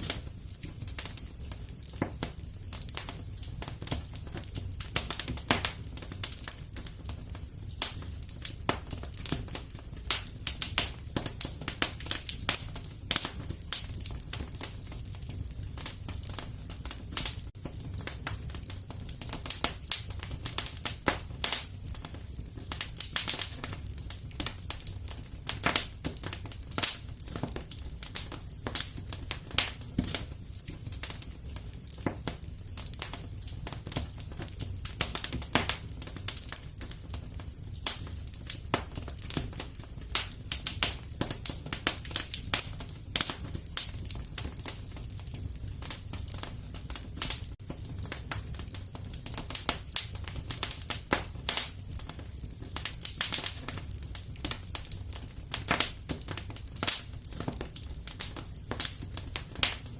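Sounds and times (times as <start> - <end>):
low rumble of flame: 0.0 - 59.9
wood fire crackling and popping: 0.0 - 59.9.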